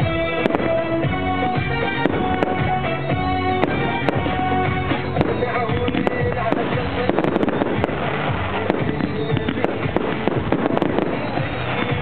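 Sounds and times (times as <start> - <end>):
fireworks bangs and crackles: 0.0 - 12.0
music: 0.0 - 12.0.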